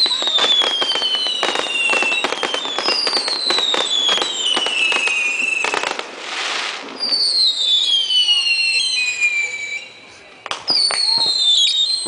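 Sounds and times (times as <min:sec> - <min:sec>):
falling fireworks whistles: 0:00.0 - 0:12.0
fireworks bangs and crackling: 0:00.0 - 0:12.0.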